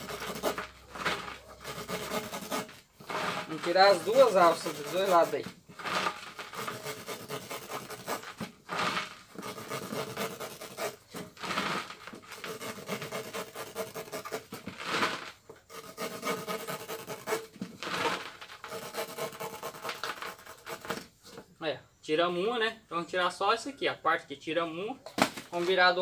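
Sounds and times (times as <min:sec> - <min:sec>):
knife cutting tyre rubber: 0:00.0 - 0:21.4.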